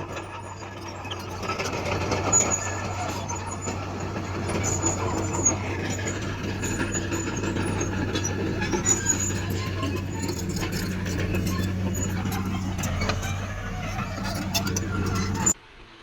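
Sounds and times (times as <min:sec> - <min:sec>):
heavy diesel machinery running: 0:00.0 - 0:15.6
high squeaks and clicks: 0:00.0 - 0:15.6.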